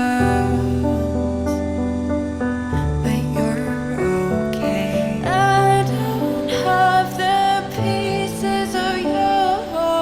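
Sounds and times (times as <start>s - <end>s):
soft vocal line: 0.0s - 10.0s.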